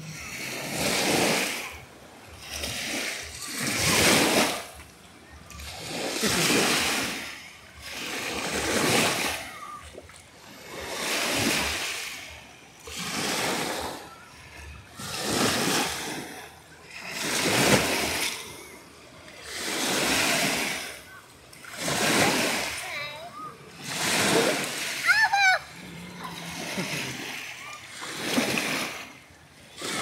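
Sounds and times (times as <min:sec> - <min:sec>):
waves washing over sandy shore: 0:00.0 - 0:30.0.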